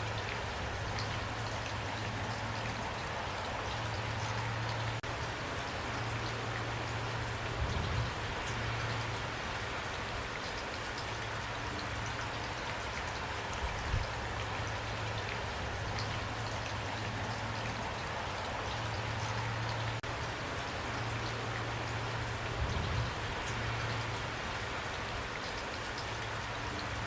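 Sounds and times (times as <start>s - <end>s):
raindrops ticking: 0.0s - 27.0s
steady rain falling: 0.0s - 27.0s.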